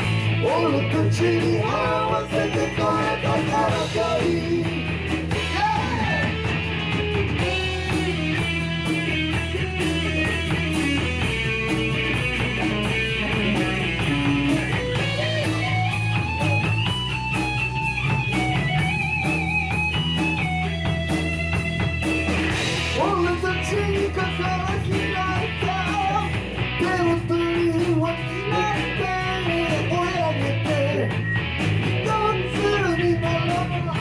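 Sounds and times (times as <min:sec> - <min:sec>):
bass guitar: 0:00.0 - 0:34.0
drums: 0:00.0 - 0:34.0
electric guitar lead melody: 0:00.0 - 0:34.0.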